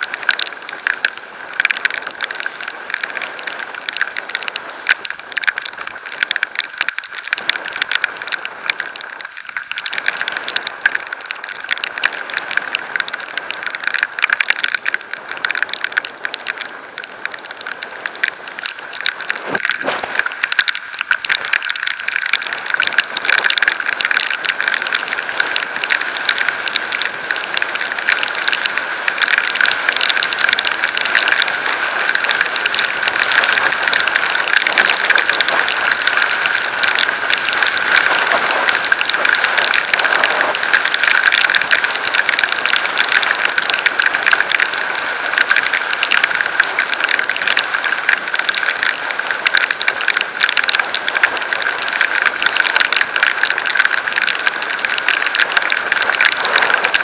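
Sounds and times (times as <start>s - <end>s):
raindrops striking camera: 0.0s - 57.0s
rushing wind noise: 0.0s - 57.0s.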